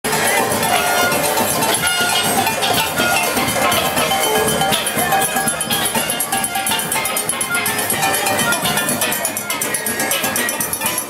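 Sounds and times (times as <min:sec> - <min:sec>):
noisy street crowd: 0:00.0 - 0:11.0
steel pan band music: 0:00.0 - 0:11.0.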